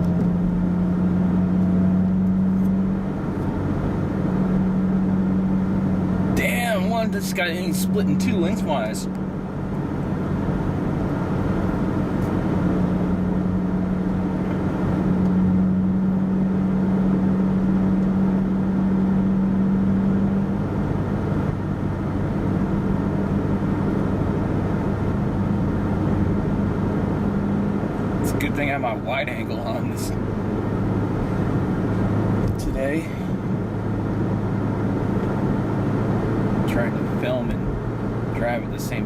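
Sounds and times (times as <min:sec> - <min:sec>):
car engine hum: 0:00.0 - 0:39.0
road noise: 0:00.0 - 0:39.0.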